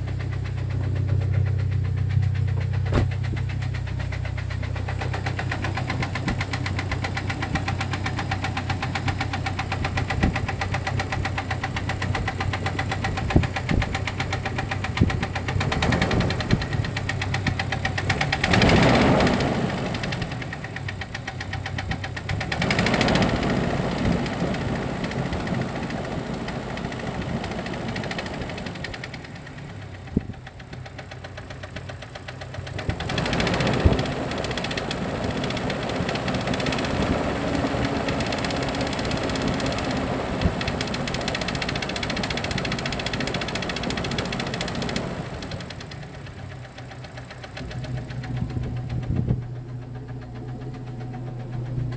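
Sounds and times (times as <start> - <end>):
petrol engine running: 0.0 - 51.9
rapid engine knock: 0.0 - 51.9.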